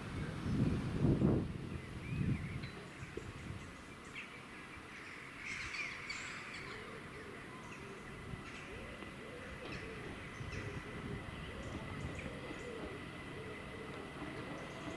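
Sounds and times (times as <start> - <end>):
quiet outdoor hum: 0.0 - 14.9.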